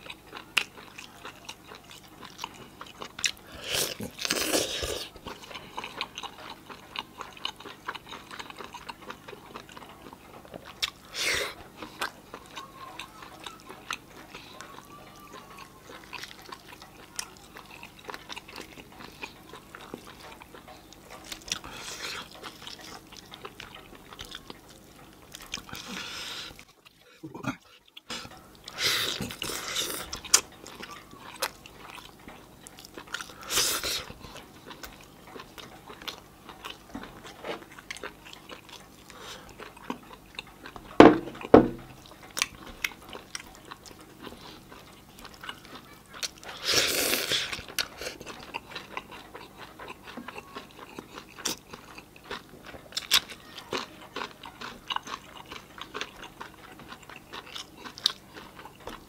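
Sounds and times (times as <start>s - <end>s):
person chewing and smacking: 0.0s - 59.0s.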